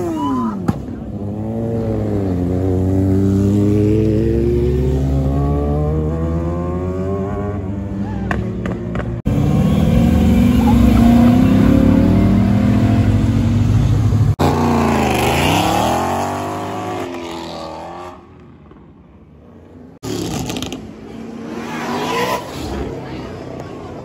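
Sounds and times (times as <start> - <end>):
car engines accelerating: 0.0 - 24.0
car revving and pulling away: 0.9 - 18.4, 19.7 - 24.0
car revving and passing close: 1.1 - 18.4, 19.9 - 24.0.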